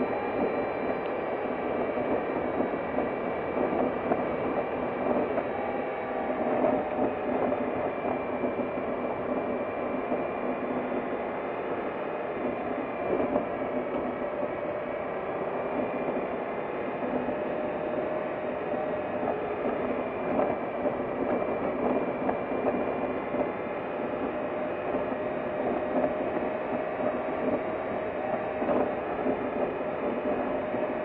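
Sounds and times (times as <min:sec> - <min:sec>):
vehicle driving on dirt road: 0:00.0 - 0:31.0.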